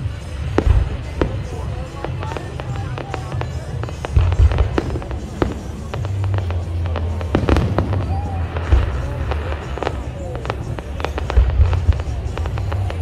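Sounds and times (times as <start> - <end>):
fireworks cracks and bangs: 0.0 - 13.0
low booming: 0.0 - 13.0.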